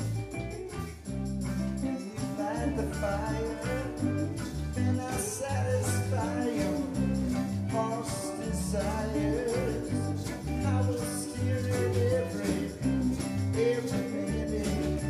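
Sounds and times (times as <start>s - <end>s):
live reggae band: 0.0s - 15.0s
person singing: 1.8s - 15.0s.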